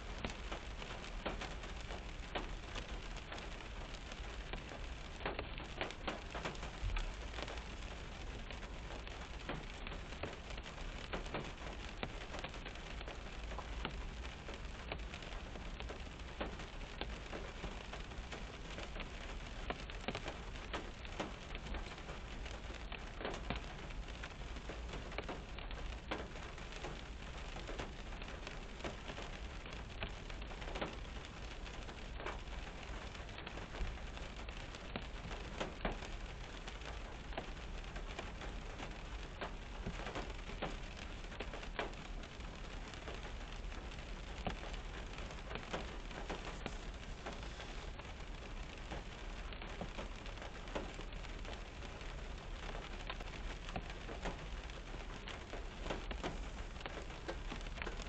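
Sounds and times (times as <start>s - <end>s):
rain on car roof: 0.0s - 58.0s.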